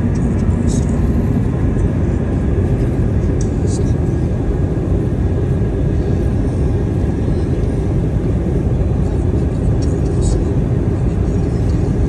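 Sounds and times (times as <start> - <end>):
aircraft cabin engine rumble: 0.0 - 12.0
faint steady whine: 0.0 - 12.0.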